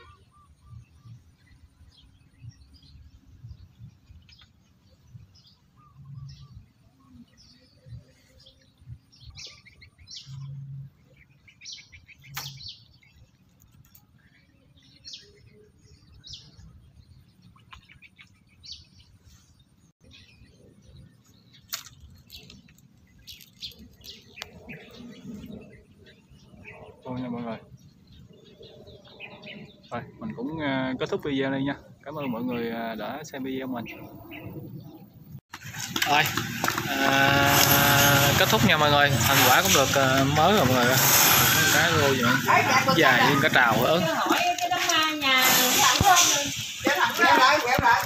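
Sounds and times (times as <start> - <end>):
small birds chirping: 0.0 - 35.4, 36.0 - 48.0.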